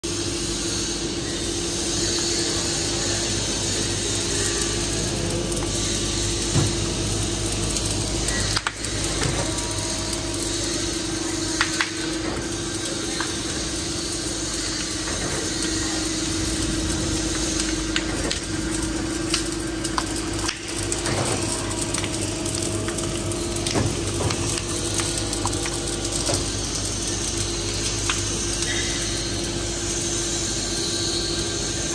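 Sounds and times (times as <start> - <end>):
mixing mill machine hum: 0.0 - 31.9.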